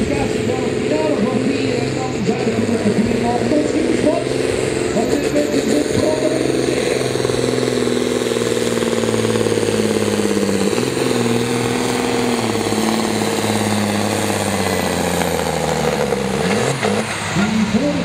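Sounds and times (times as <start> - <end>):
diesel engine running at high revs: 0.0 - 18.0.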